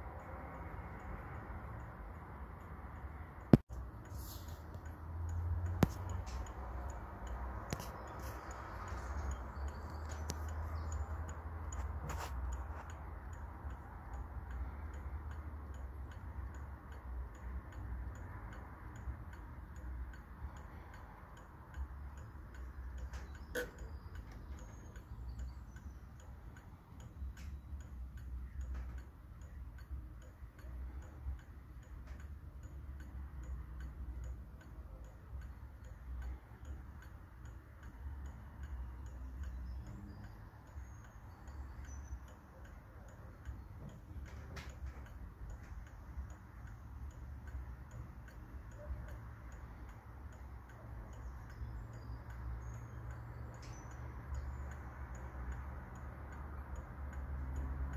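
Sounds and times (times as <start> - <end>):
clock clicks: 0.0 - 57.9.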